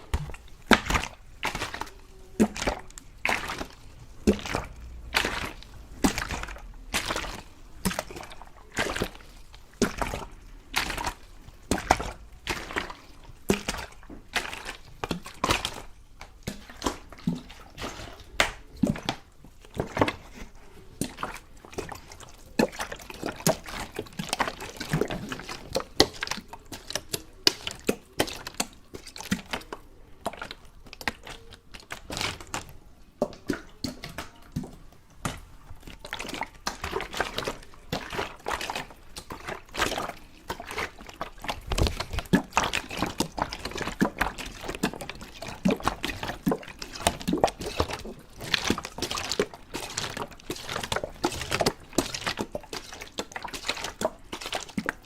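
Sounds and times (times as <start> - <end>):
water splashes drips and sloshes: 0.0 - 55.0.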